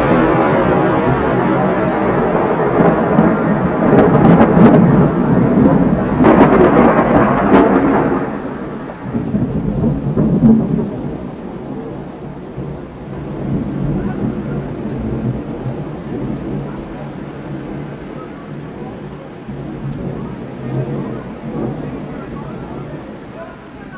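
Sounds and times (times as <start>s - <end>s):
rain: 0.0s - 23.9s
thunder rumbling and cracking: 0.0s - 23.9s.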